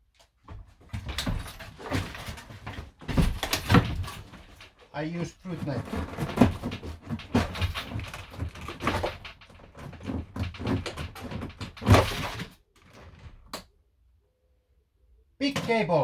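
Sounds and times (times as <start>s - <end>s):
knocks scrapes and thuds: 0.4s - 13.5s.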